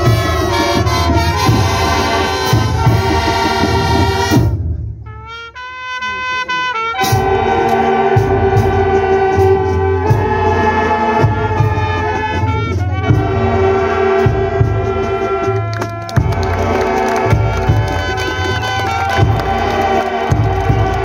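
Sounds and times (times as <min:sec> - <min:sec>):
drums beating: 0:00.0 - 0:05.0, 0:07.0 - 0:21.0
marching band playing: 0:00.0 - 0:21.0.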